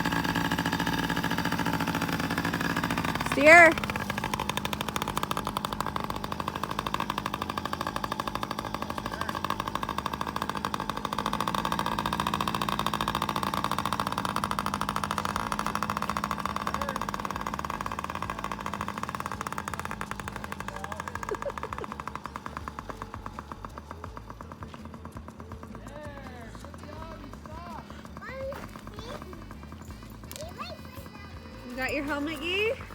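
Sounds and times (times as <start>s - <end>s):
dirt bike engine running: 0.0s - 32.9s.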